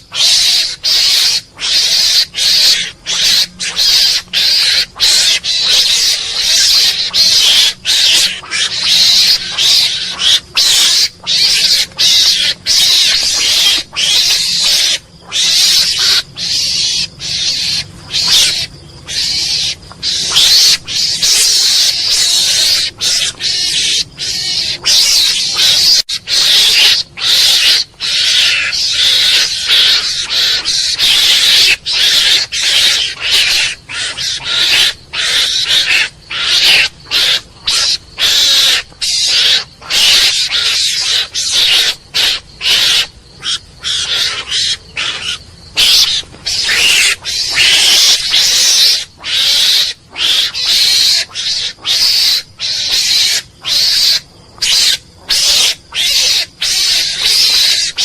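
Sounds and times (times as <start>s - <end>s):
mongoose hissing calls: 0.0s - 58.0s.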